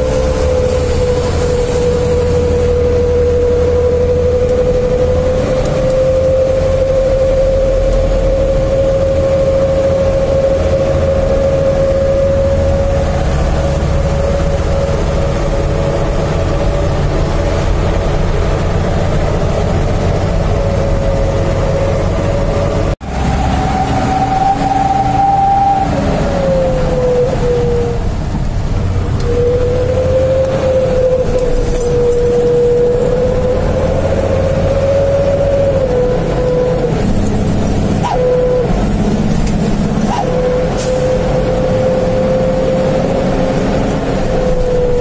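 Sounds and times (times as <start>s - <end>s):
howling whistle exhaust: 0.0s - 18.7s, 19.3s - 28.2s, 29.1s - 39.2s, 39.8s - 45.0s
diesel truck engine rumble: 0.0s - 45.0s.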